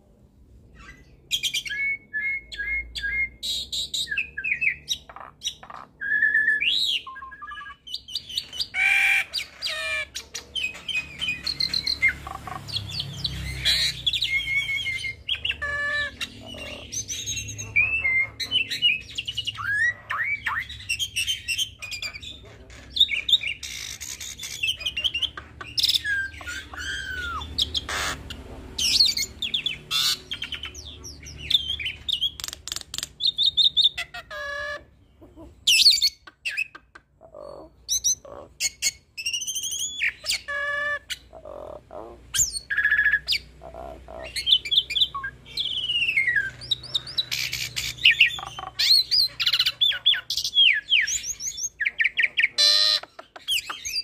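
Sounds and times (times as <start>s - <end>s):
starling singing: 0.8s - 54.0s.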